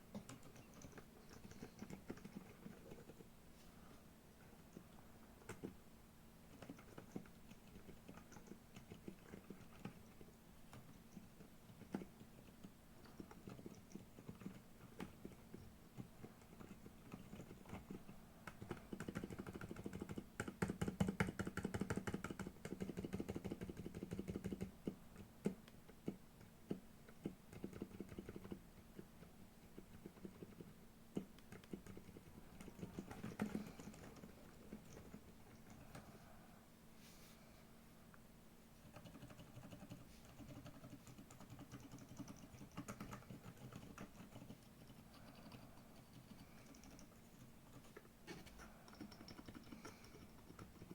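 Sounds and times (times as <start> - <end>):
quiet keyboard typing: 0.0 - 3.3, 4.4 - 5.8, 6.4 - 36.4, 38.8 - 50.9.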